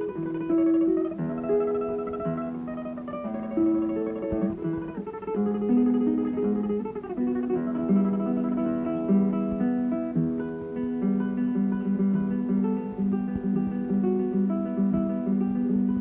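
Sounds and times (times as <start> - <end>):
solo acoustic guitar melody: 0.0 - 16.0.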